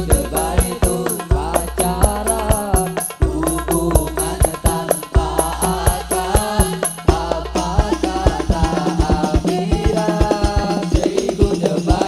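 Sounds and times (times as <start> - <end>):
drum strikes: 0.0 - 12.0
high ticking percussion beat: 0.0 - 12.0
men singing in unison: 0.0 - 12.0.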